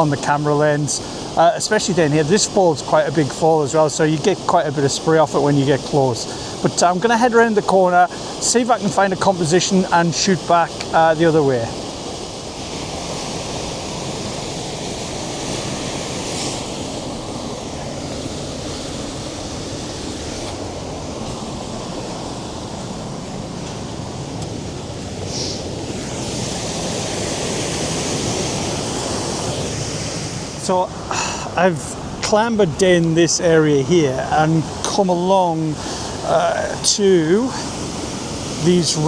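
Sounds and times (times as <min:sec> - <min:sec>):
waterfall rushing: 0:00.0 - 0:39.0
wind buffeting microphone: 0:00.0 - 0:39.0.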